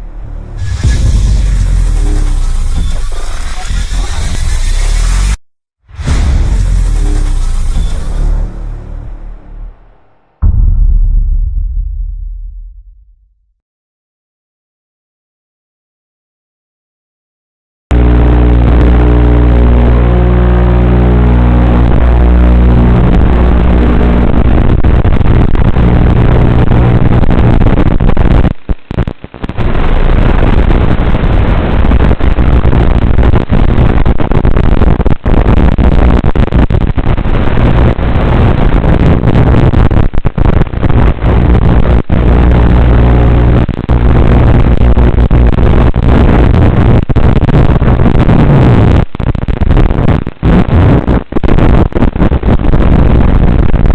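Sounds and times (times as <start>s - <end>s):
radio static: 0.0s - 5.4s, 6.0s - 10.1s, 17.9s - 53.9s.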